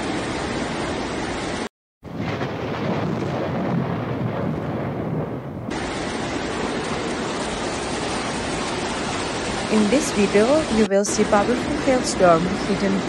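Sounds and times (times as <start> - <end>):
heavy rain rushing: 0.0 - 13.0
low thunder rumble: 2.1 - 12.9.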